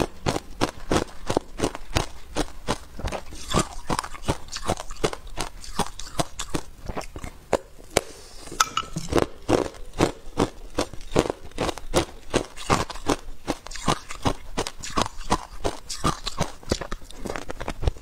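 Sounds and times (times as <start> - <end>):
ice crunching between teeth: 0.0 - 8.2, 9.0 - 18.0.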